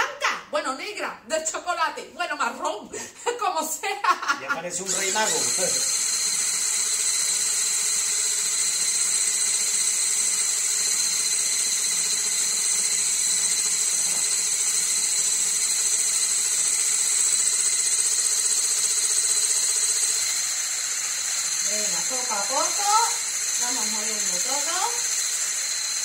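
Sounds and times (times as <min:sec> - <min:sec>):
hand blender motor whine: 0:04.6 - 0:26.0.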